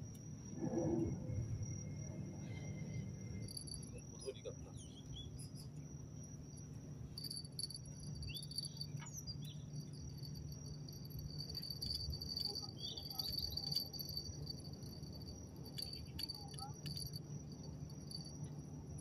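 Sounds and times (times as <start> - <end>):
insects trilling: 0.0 - 19.0
low steady hum: 0.0 - 19.0.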